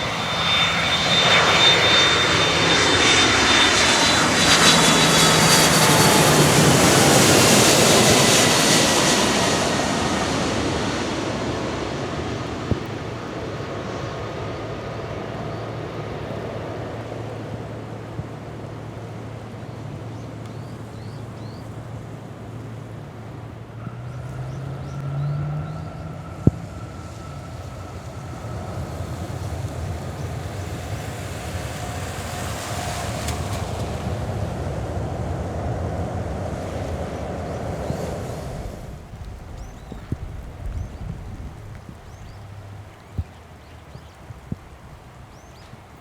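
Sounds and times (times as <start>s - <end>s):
faint whine: 0.0s - 46.0s
jet engines rushing: 0.0s - 46.0s.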